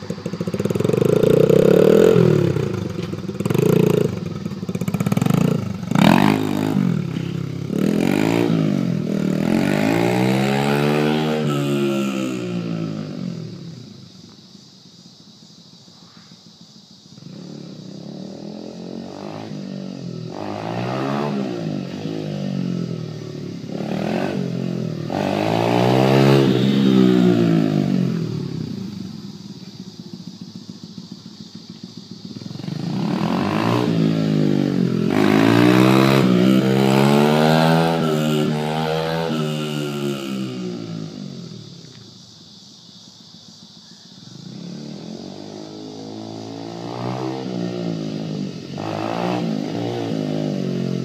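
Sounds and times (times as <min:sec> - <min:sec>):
dirt bike engine revving: 0:00.0 - 0:13.5, 0:17.2 - 0:29.2, 0:32.2 - 0:41.6, 0:44.4 - 0:51.0.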